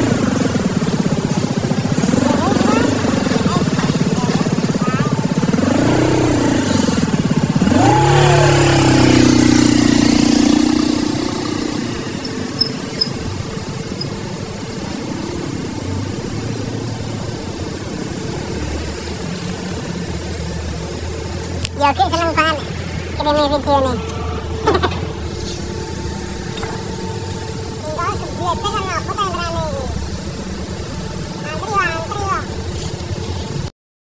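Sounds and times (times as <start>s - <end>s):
vehicle engine revving: 0.0s - 33.7s.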